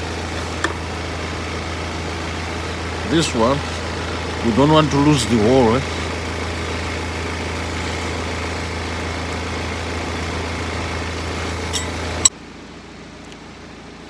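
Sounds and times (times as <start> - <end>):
motor hum: 0.0 - 12.3.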